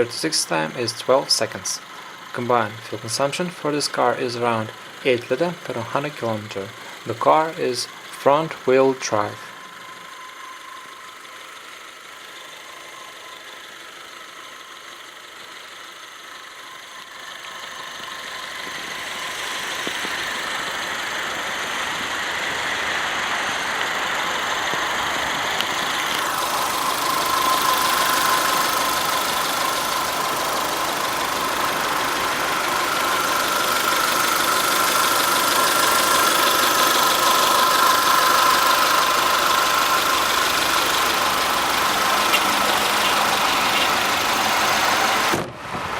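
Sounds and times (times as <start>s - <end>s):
car engine idling with whine: 0.0s - 45.9s.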